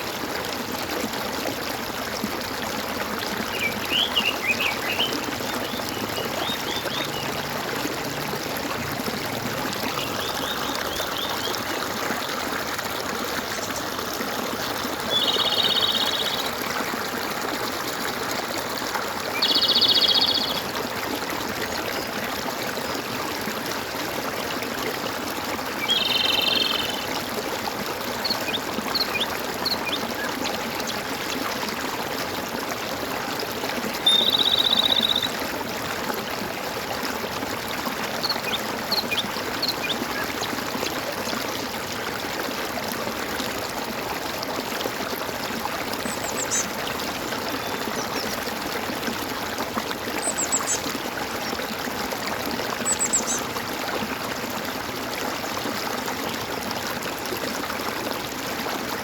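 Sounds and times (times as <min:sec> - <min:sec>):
stream water gurgling: 0:00.0 - 0:59.0.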